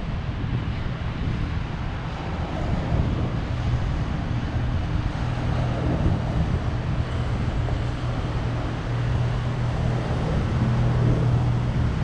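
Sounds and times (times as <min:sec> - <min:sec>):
faint engine drone: 0:00.0 - 0:12.0
wind buffeting microphone: 0:00.0 - 0:12.0.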